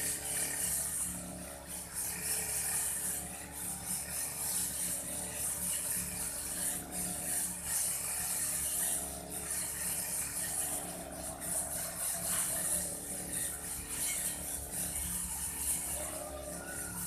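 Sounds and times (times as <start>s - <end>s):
brush cutter cutting grass: 0.0s - 17.0s.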